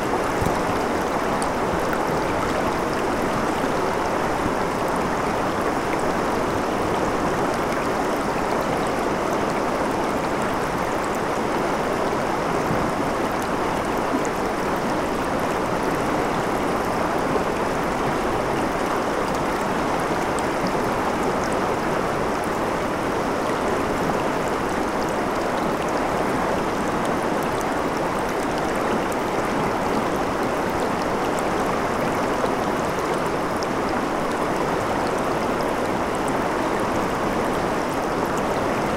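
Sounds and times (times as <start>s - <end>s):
river rushing over stones: 0.0s - 38.9s.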